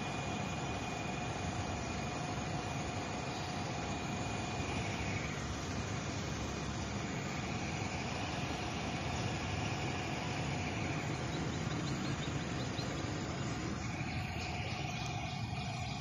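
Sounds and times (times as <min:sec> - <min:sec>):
pickup engine running: 0:00.0 - 0:16.0.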